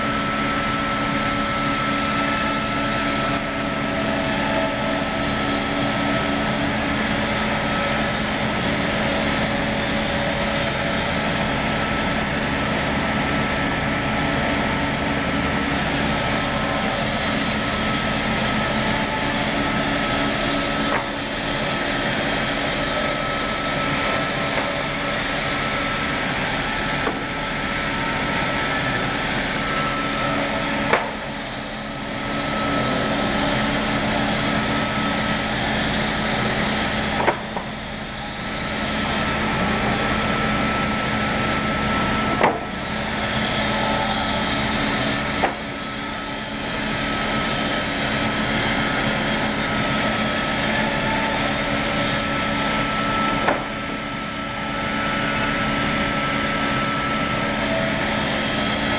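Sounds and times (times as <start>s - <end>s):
circular saw machine humming: 0.0s - 58.9s.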